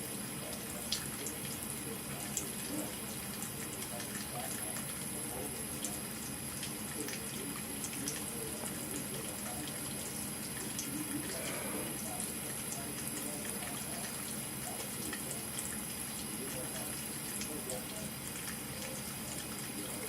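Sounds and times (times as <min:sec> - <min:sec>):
faucet water running into sink: 0:00.0 - 0:20.0.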